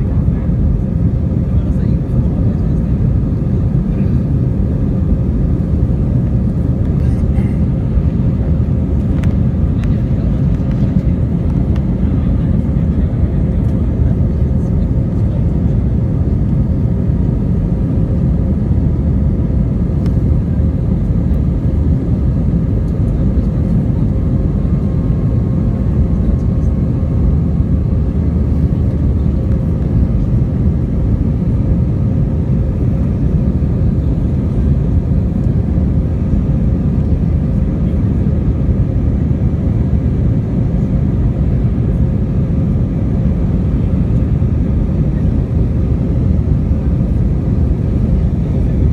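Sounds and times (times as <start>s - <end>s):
jet engines and airflow rumble: 0.0s - 48.9s.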